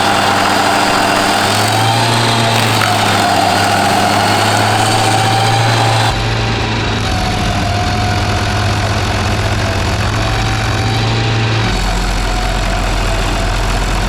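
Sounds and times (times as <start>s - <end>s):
deep rumble: 0.0s - 14.0s
stump grinder engine hum and whine: 0.0s - 14.0s.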